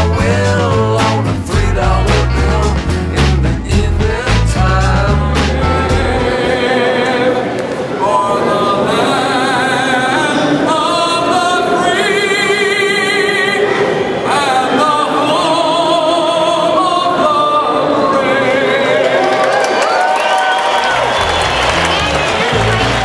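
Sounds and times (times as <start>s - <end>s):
person singing with vibrato: 0.0s - 19.7s.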